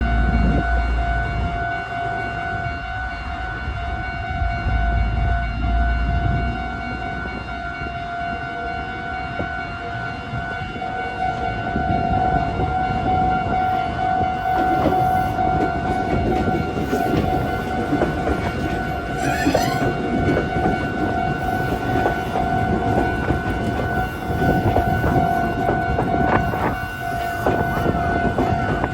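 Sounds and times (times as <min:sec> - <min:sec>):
train rumbling: 0:00.0 - 0:28.9.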